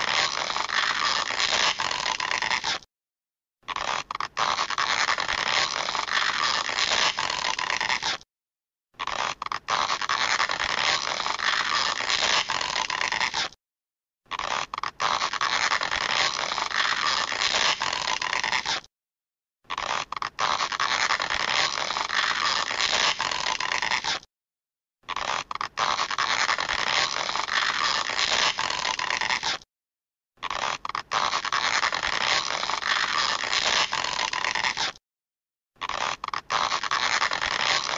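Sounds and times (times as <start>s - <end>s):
stretching sound effect: 0.0s - 2.8s, 3.7s - 8.2s, 9.0s - 13.6s, 14.3s - 18.9s, 19.7s - 24.2s, 25.1s - 29.6s, 30.4s - 35.0s, 35.8s - 37.9s.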